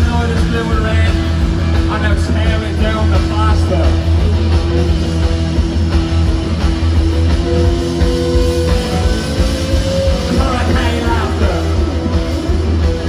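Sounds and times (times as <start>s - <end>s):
post-punk rock music: 0.0s - 13.0s.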